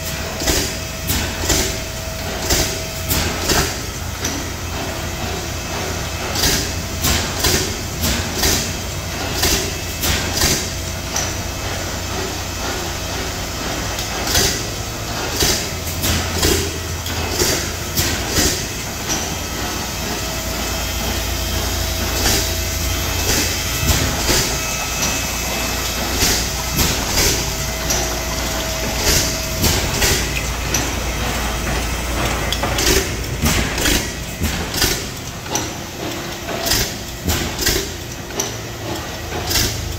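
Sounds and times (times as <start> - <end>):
stationary gas engine running: 0.0 - 39.9.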